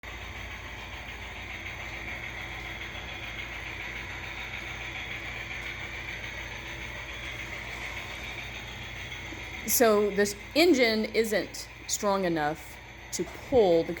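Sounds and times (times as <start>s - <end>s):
toy train motor whining: 0.2s - 14.0s.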